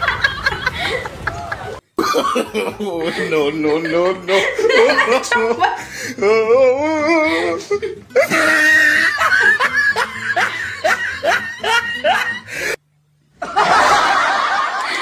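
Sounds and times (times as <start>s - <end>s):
person laughing: 0.0s - 12.8s.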